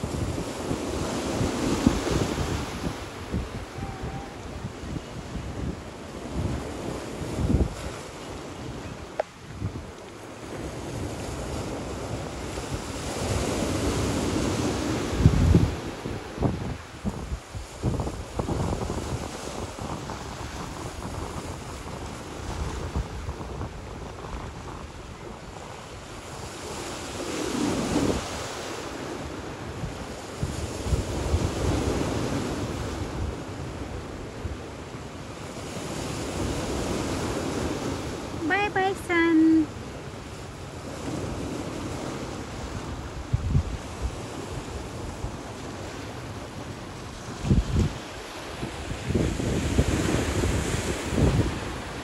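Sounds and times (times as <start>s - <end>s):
wind buffeting microphone: 0.0s - 38.4s, 40.2s - 52.0s
sea waves washing: 0.0s - 52.0s.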